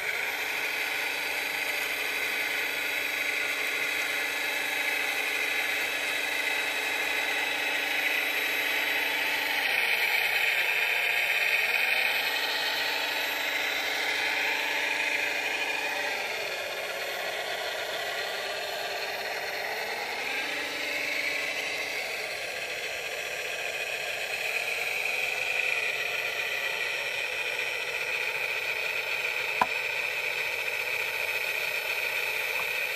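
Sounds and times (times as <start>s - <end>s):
whir of small electric motors: 0.0s - 32.9s.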